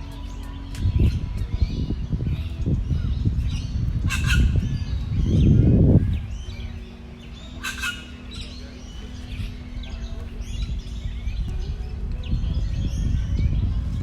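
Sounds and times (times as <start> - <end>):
birds chirping and calling: 0.0 - 14.0
low steady hum: 0.0 - 14.0.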